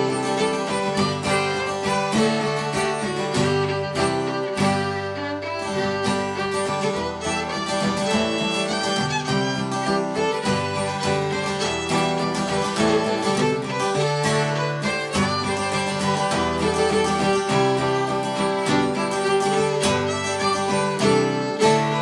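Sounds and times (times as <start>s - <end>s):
acoustic guitar rhythm: 0.0s - 22.0s
fiddle melody: 0.0s - 22.0s.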